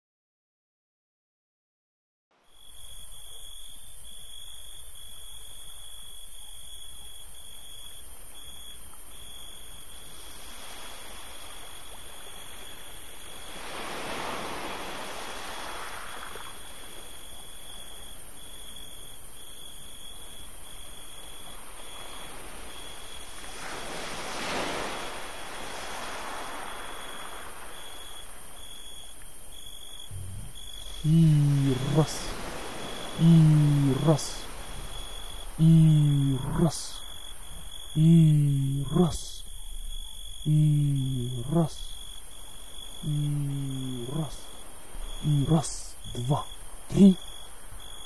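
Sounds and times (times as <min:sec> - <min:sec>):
rushing wind and sea: 0:08.9 - 0:48.0.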